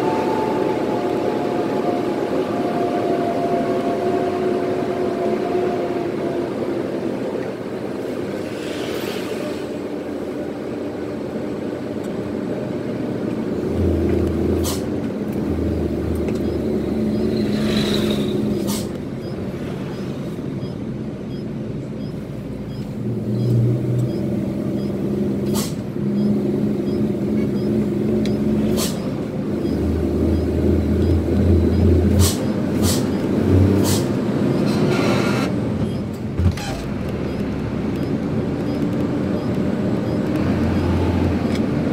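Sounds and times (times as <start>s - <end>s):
diesel truck engine: 0.0s - 41.9s.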